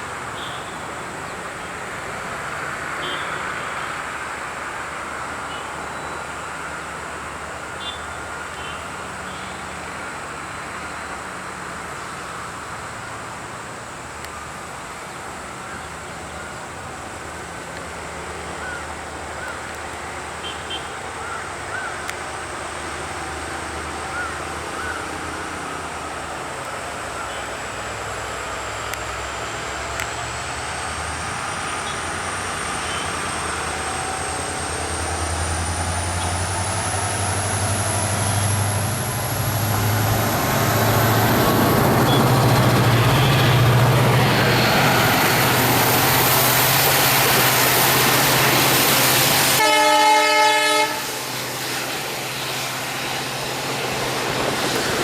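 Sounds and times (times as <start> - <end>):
vehicle engine noise: 0.0 - 55.0.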